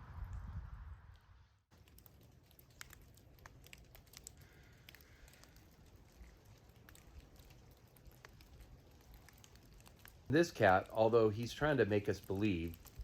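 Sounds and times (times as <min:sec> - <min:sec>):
raindrops tapping and dripping: 0:01.7 - 0:13.0.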